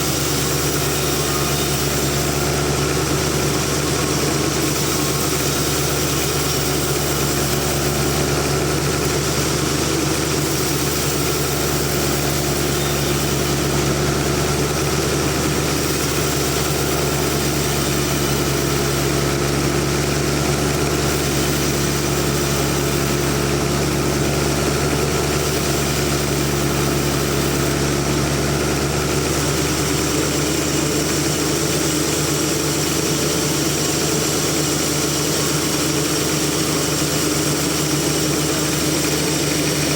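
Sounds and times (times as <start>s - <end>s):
sawmill machine humming: 0.0s - 39.9s.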